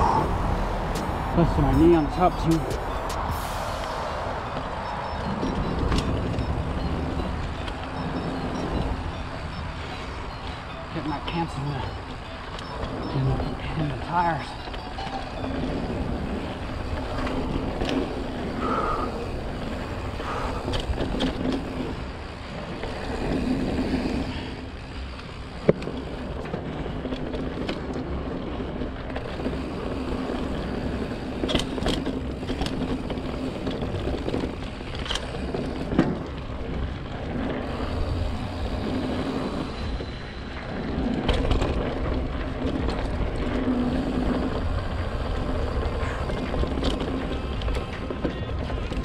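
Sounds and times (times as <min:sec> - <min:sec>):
bike rattling and knocking: 0:00.0 - 0:03.3, 0:04.4 - 0:49.0
bike tyres on dirt: 0:00.0 - 0:49.0.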